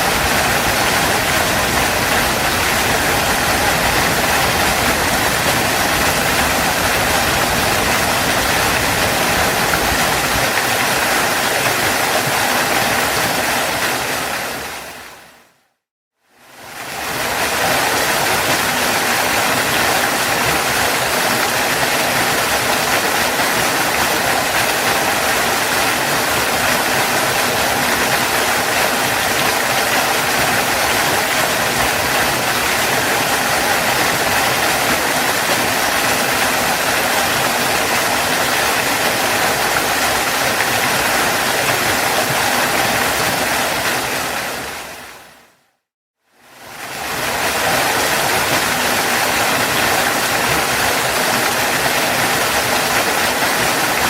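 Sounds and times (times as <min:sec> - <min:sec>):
waterfall rushing: 0:00.0 - 0:15.6, 0:16.4 - 0:45.6, 0:46.5 - 0:54.0.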